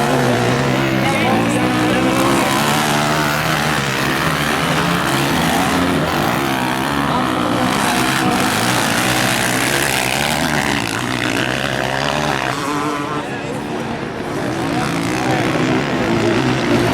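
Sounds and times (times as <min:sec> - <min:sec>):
motocross engines revving: 0:00.0 - 0:16.9.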